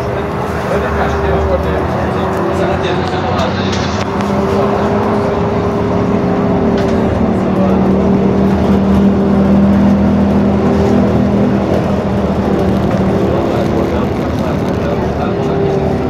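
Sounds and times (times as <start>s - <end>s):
road and tyre noise: 0.0s - 16.0s
trolleybus electric hum: 0.0s - 16.0s.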